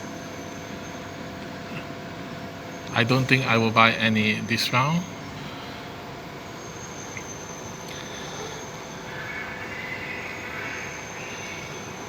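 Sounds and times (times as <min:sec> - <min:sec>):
faint high whine: 0:00.0 - 0:12.0
steady background rumble and hiss: 0:00.0 - 0:12.0.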